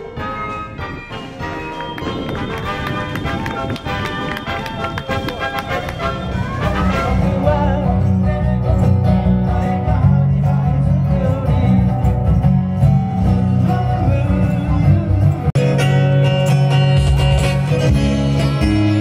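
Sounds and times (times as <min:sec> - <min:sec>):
acoustic guitar: 0:00.0 - 0:19.0
steady bass line: 0:00.0 - 0:19.0.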